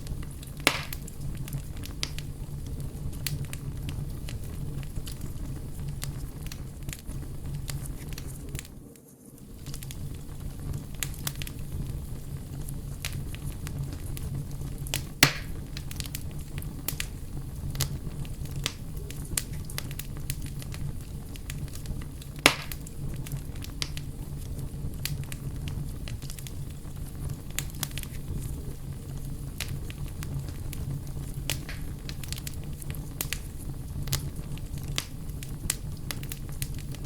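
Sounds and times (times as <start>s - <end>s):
campfire flame rumble: 0.0s - 37.0s
fire crackles and pops: 0.0s - 37.0s.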